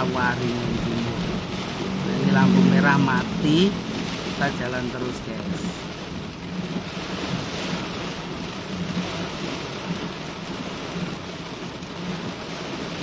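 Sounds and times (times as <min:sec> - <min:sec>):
heavy rain pouring: 0:00.0 - 0:13.0
low vehicle hum: 0:00.0 - 0:13.0.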